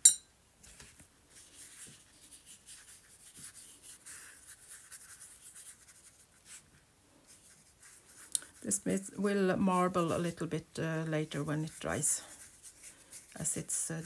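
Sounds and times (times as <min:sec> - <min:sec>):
paintbrush scratching on paper: 0:01.3 - 0:14.0.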